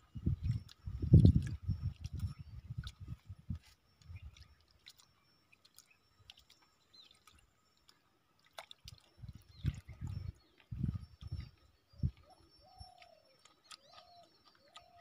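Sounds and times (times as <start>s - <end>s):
dripping wet sounds: 0.0s - 15.0s
wet squelches of hand squeezing rice: 0.0s - 15.0s.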